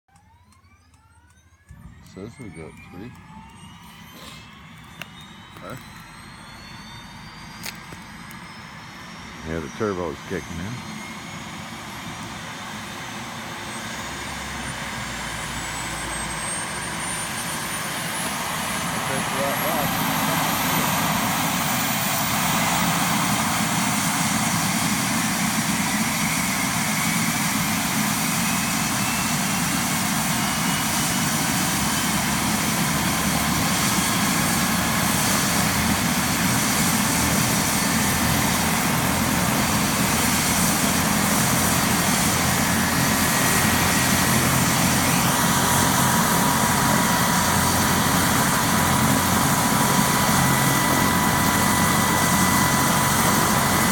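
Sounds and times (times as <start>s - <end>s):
helicopter turbine whine: 0.1s - 53.9s
steady high tone: 0.1s - 53.9s.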